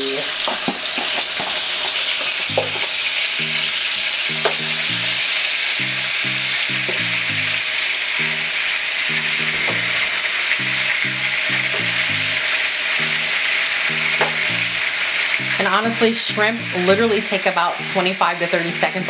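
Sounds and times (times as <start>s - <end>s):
shrimp sizzling in oil: 0.0s - 19.0s
background music: 2.4s - 19.0s.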